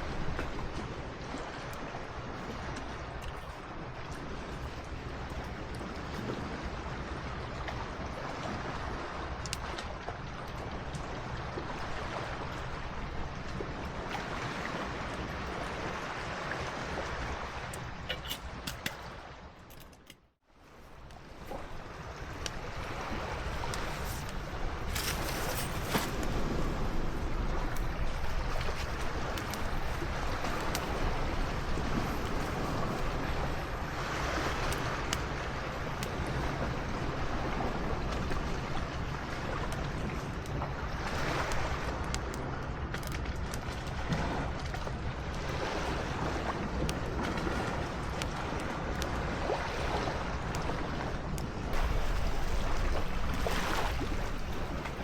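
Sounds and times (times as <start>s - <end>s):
sea surf washing on beach: 0.0s - 19.5s, 21.2s - 55.0s
wind rumbling on microphone: 0.0s - 19.8s, 20.6s - 55.0s.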